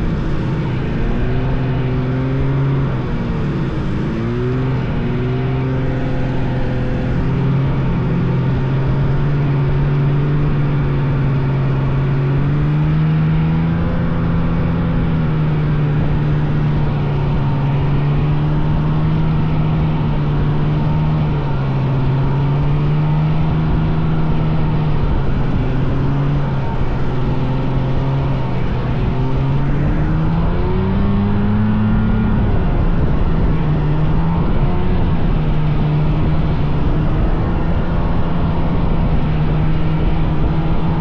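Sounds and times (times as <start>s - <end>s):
snowmobile engine running: 0.0s - 41.0s.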